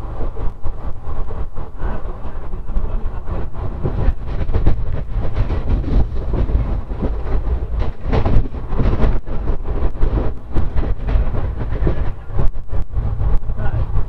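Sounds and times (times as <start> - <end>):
train wheels rumbling on rails: 0.0 - 14.0
track clicks and knocks: 2.1 - 14.0.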